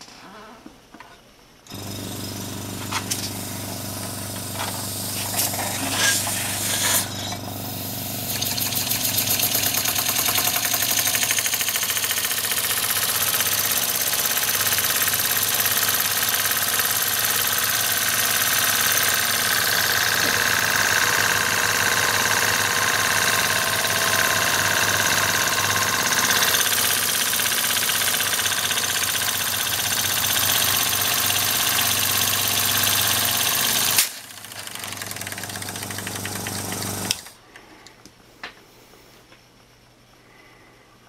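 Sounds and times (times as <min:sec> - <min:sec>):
air compressor humming: 0:01.7 - 0:37.9
toy steam engine exhausting: 0:02.8 - 0:37.2.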